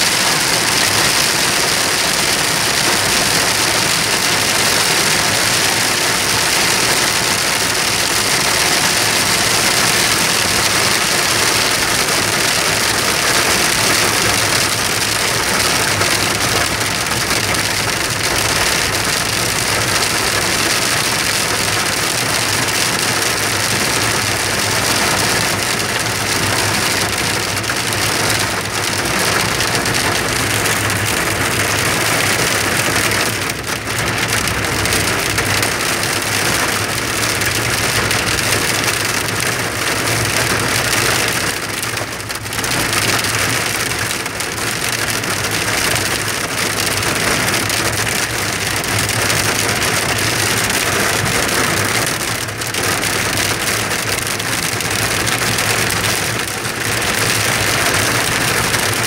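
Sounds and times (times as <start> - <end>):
rain and hail on car roof: 0.0 - 59.0.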